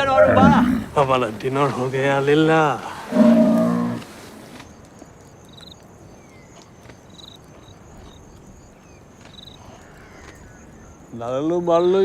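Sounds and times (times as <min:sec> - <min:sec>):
insect chirps: 0:00.0 - 0:12.0.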